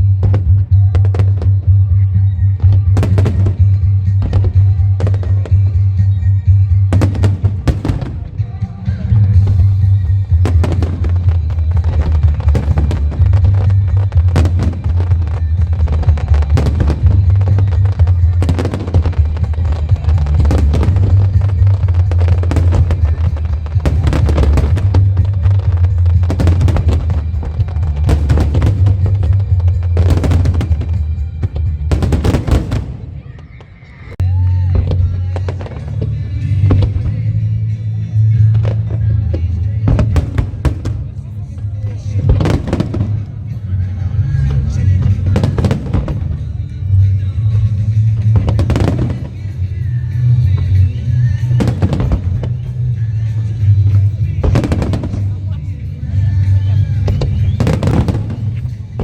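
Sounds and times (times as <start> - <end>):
heavy low rumble: 0.0 - 33.2, 34.1 - 59.0
music playing: 0.0 - 59.0
fireworks bangs: 2.6 - 34.1, 34.7 - 59.0.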